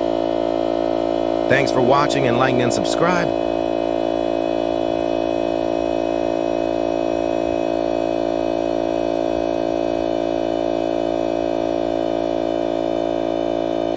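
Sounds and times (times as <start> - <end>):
compressor motor humming: 0.0 - 13.9.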